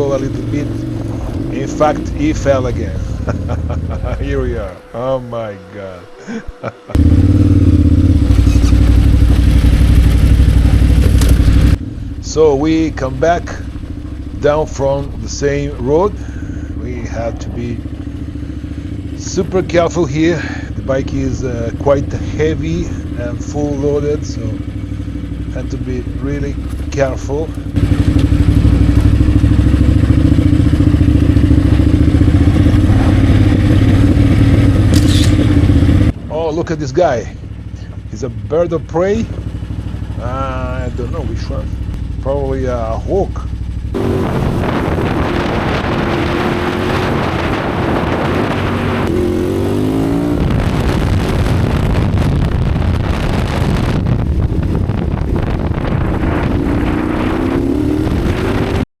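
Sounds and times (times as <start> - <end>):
steady rushing noise: 0.0 - 37.0, 43.7 - 58.8
motorcycle engine running: 0.0 - 58.9.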